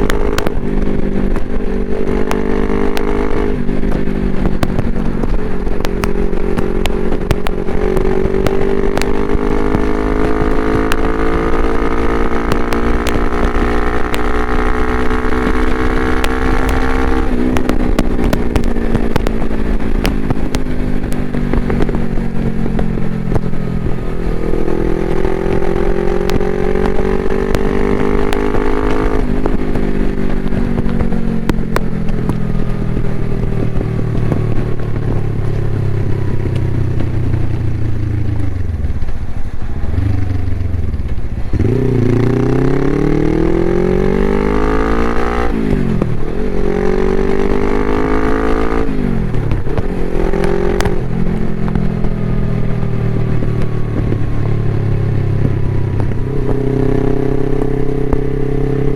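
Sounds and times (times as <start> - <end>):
exhaust pops: 0.0 - 58.9
motorcycle engine revving: 0.0 - 58.9.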